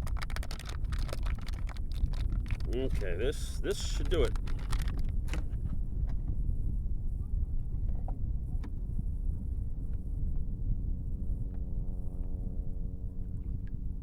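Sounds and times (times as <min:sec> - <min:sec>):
wind and water on microphone: 0:00.0 - 0:14.0.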